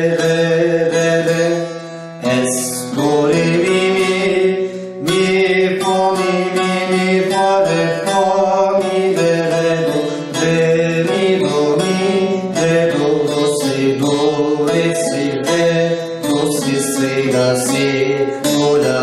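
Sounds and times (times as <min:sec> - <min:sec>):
plucked lute folk melody: 0:00.0 - 0:19.0.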